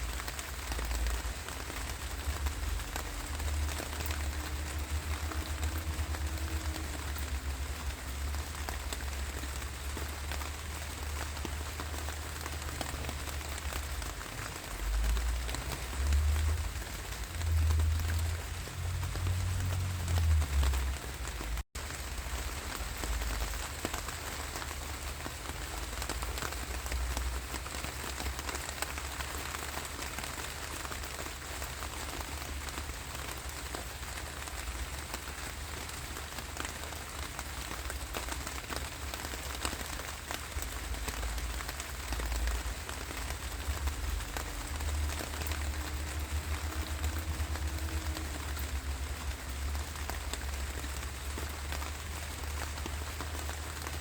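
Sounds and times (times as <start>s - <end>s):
rain patter: 0.0s - 54.0s.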